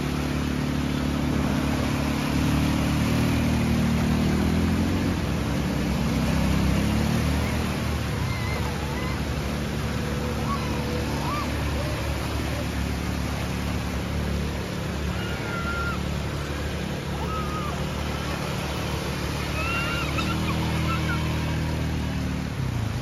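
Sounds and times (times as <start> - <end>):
atv engine running: 0.0 - 23.0
water splashing: 0.0 - 23.0.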